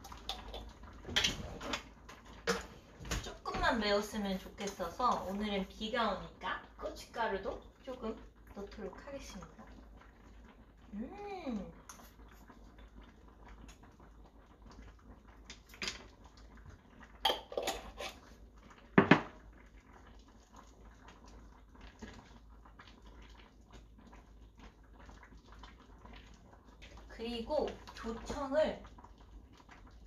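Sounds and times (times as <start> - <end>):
sauce simmering: 0.0 - 30.0.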